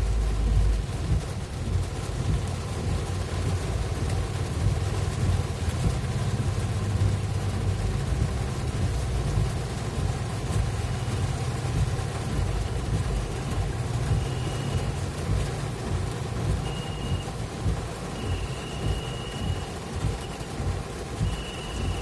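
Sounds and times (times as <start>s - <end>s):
engine and road noise rumble: 0.0s - 22.0s
rain and wet tyres hissing: 0.0s - 22.0s.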